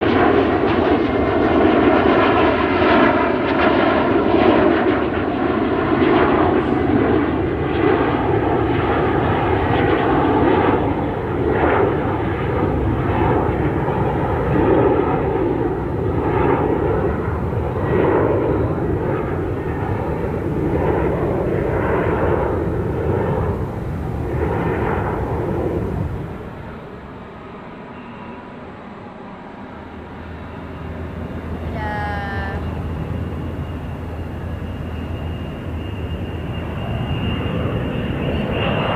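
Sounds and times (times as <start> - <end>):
airplane engines running: 0.0 - 38.9.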